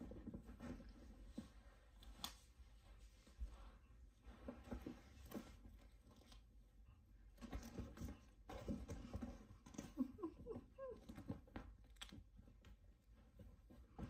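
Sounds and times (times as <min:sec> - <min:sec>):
cats scuffling and thudding: 0:00.0 - 0:02.0, 0:03.0 - 0:06.4, 0:07.2 - 0:14.0.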